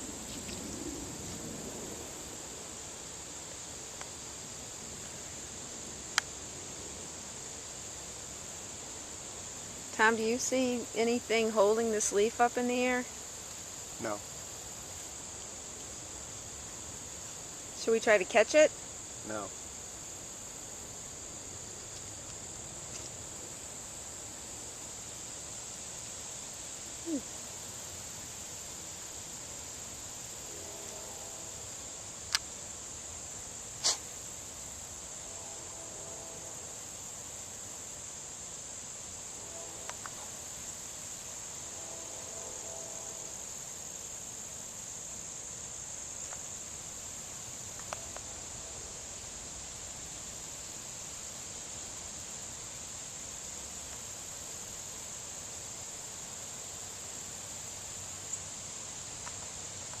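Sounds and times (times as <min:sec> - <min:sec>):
crickets chirping: 0:00.0 - 1:00.0.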